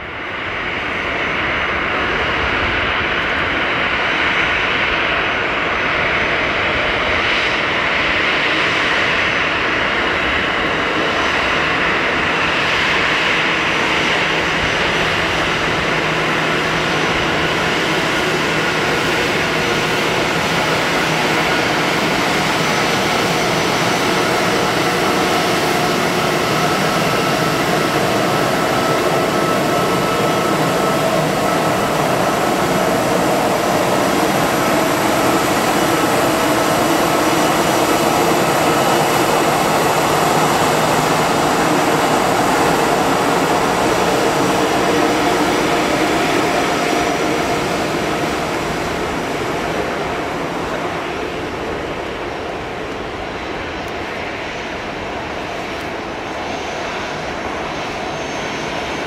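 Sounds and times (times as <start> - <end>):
jet engine whine: 0.0 - 59.0
jet engines rushing: 0.0 - 59.0.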